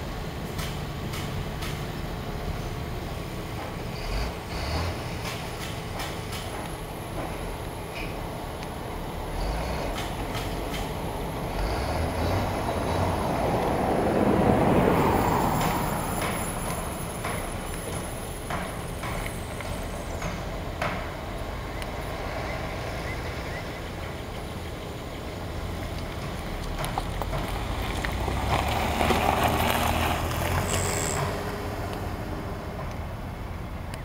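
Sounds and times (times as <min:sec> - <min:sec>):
cars driving past: 0:00.0 - 0:34.0
heavy truck: 0:00.0 - 0:34.0
rumble of traffic: 0:00.0 - 0:34.0.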